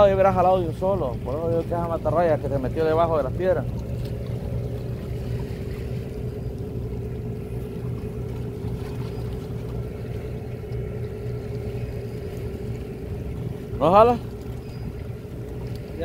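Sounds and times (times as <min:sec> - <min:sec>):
engine drone: 0:00.0 - 0:16.0
water: 0:00.0 - 0:16.0
wind: 0:00.0 - 0:16.0.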